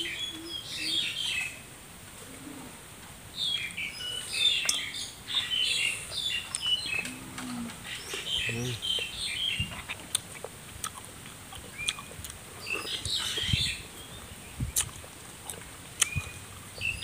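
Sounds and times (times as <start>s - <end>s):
small birds chirping: 0.0s - 1.7s, 3.3s - 17.0s.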